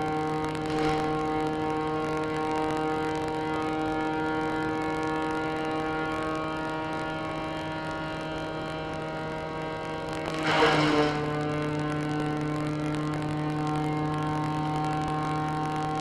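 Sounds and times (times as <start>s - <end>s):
wood chipper engine droning: 0.0s - 16.0s.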